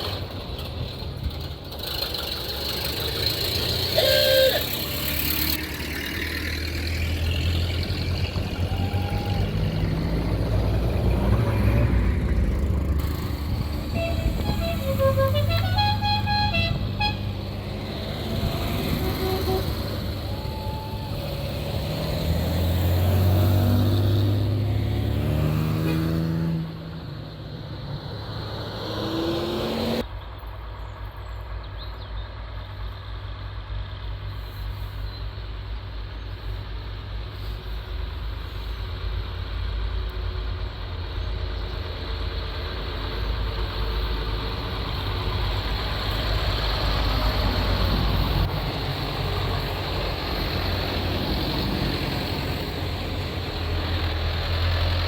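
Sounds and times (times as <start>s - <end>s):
tractor engine running: 0.0s - 24.8s, 32.2s - 55.0s.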